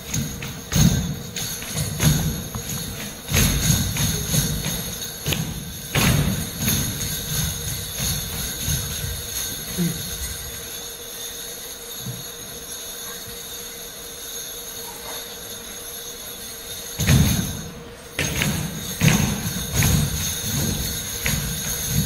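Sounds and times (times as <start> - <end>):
metallic ringing and jingling: 0.0 - 22.0.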